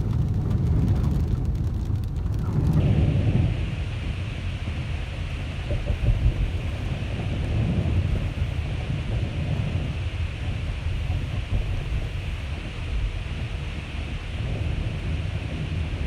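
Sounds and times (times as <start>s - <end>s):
low uneven rumble: 0.0s - 16.0s
rain hissing: 0.0s - 16.0s.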